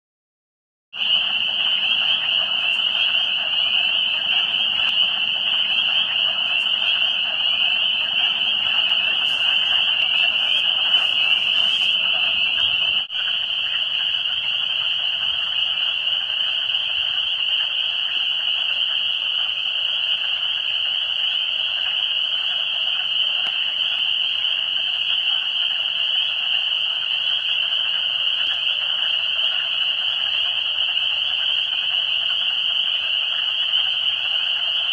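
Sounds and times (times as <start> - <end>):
frogs chorus calling: 1.0 - 34.9.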